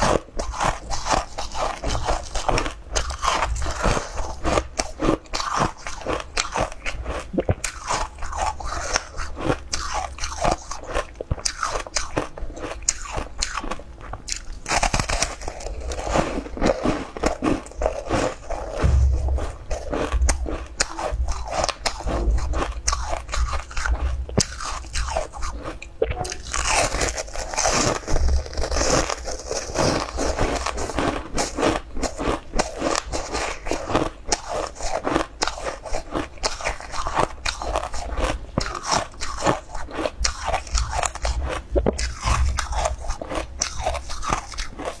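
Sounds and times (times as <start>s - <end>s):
crunchy food chewing: 0.0s - 45.0s.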